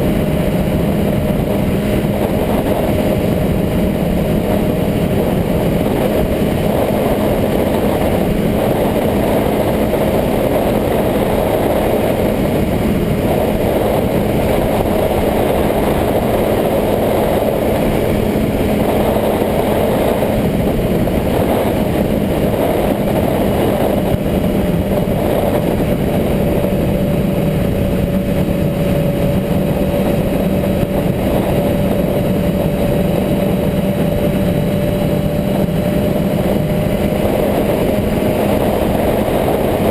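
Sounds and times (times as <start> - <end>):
constant rushing noise: 0.0 - 39.9
motorcycle engine running: 0.0 - 39.9.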